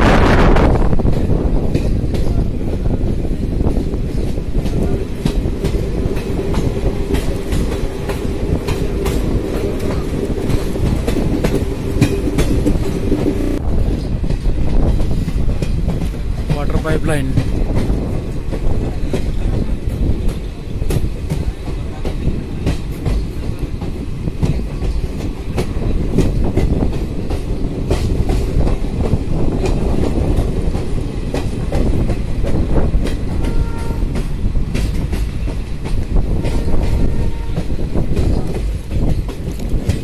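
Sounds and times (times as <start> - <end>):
train wheels rumbling on rails: 0.0 - 40.0
wheels clacking over rail joints: 3.7 - 40.0.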